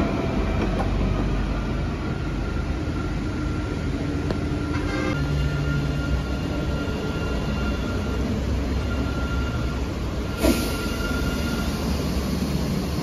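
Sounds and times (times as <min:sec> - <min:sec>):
tram wheels rumbling on rails: 0:00.0 - 0:13.0.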